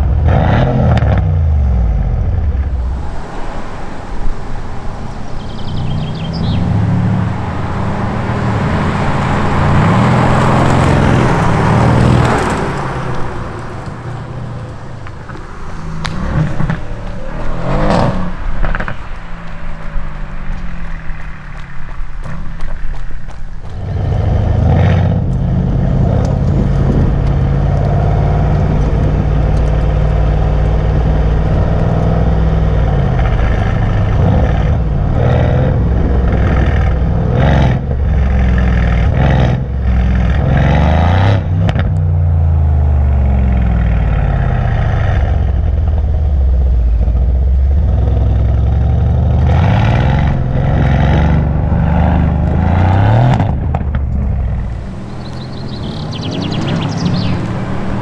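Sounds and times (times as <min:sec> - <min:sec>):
car engine revving: 0:00.0 - 0:58.0
exhaust crackles and pops: 0:08.6 - 0:58.0.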